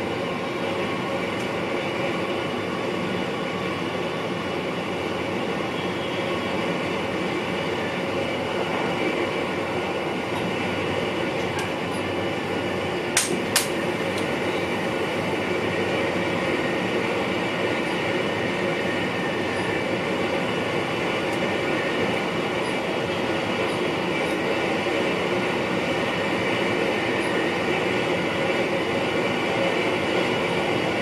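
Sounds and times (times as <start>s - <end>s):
electric train running: 0.0s - 31.0s.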